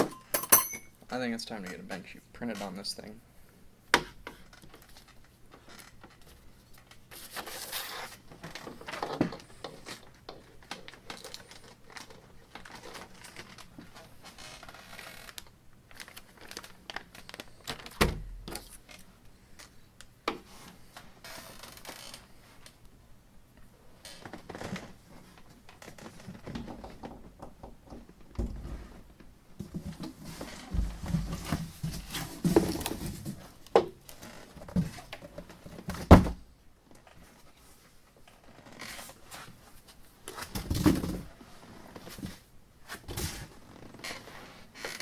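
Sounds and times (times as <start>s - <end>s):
rustling and crinkling: 4.3s - 22.8s, 23.6s - 45.0s.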